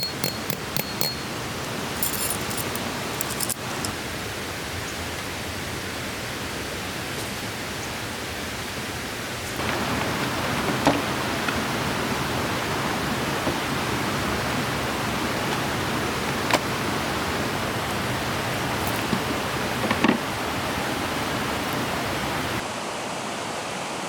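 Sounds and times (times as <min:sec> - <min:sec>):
flowing stream: 0:00.0 - 0:24.0
rain rushing: 0:01.3 - 0:22.7.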